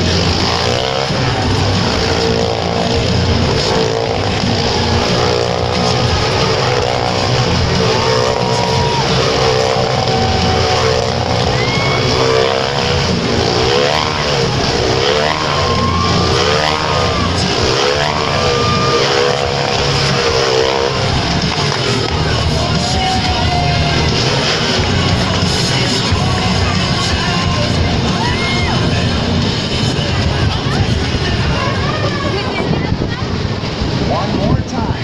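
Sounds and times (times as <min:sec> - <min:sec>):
small motorcycle engine revving: 0:00.0 - 0:30.3.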